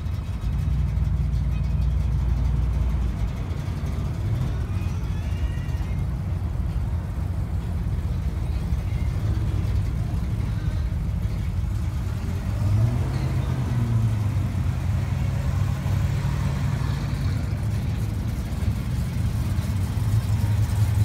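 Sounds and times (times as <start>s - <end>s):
car engines rumbling past: 0.0s - 21.0s.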